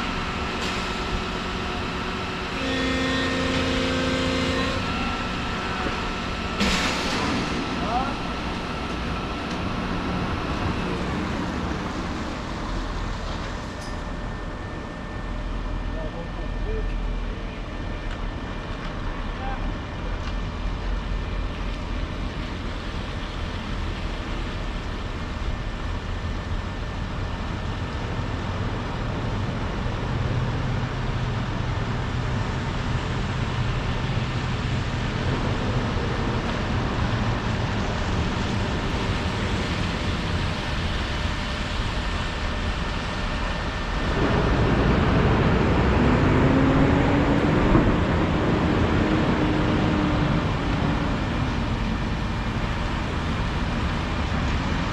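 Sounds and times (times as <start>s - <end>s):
excavator diesel engine running: 0.0s - 13.7s, 21.0s - 54.9s.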